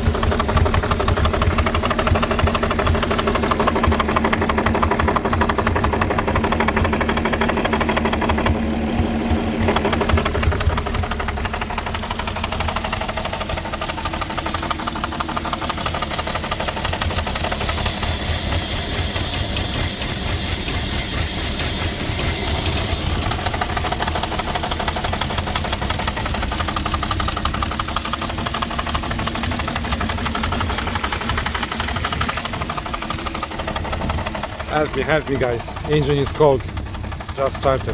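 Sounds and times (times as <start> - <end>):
car engine idling rough: 0.0 - 37.9.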